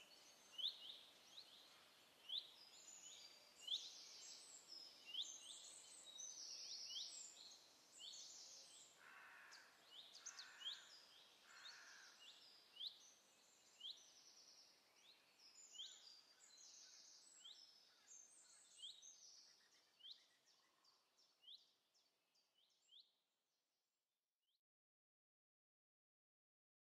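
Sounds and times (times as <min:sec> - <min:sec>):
songbirds chirping: 0:00.0 - 0:23.2.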